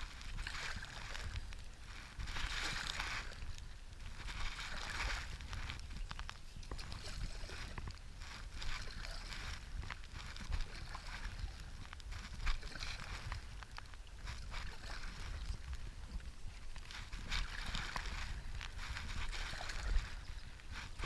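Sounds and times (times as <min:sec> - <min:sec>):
low rumble of wind on microphone: 0:00.0 - 0:21.0
river water sloshing and splashing: 0:00.0 - 0:21.0.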